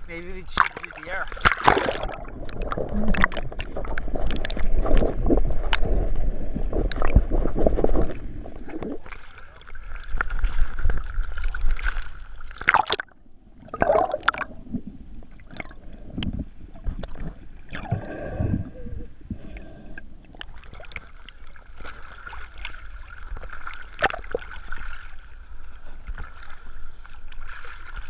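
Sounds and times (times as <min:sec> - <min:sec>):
water splashes: 0:00.1 - 0:18.8, 0:19.4 - 0:28.0.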